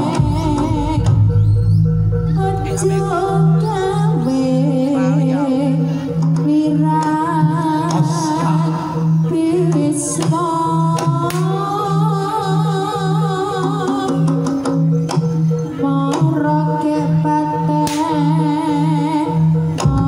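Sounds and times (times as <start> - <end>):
woman singing: 0.0 - 1.6, 2.3 - 14.8, 15.7 - 20.0
gamelan music: 0.0 - 20.0.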